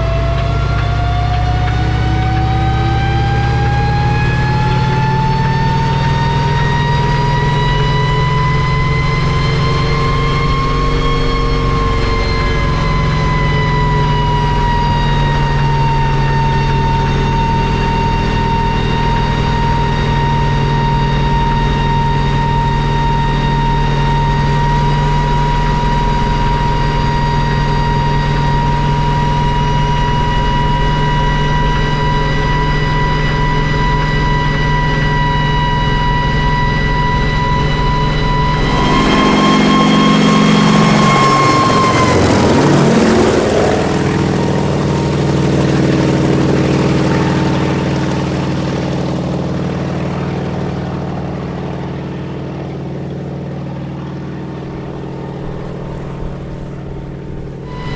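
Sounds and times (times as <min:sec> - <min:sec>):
helicopter engines and rotors: 0:00.0 - 0:57.9
helicopter passing by: 0:00.0 - 0:57.9.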